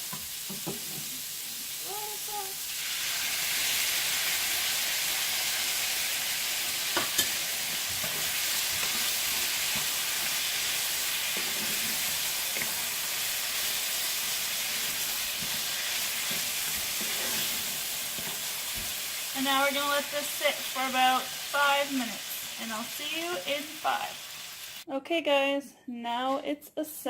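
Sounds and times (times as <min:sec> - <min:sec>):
food sizzling in a frying pan: 0:00.0 - 0:24.9.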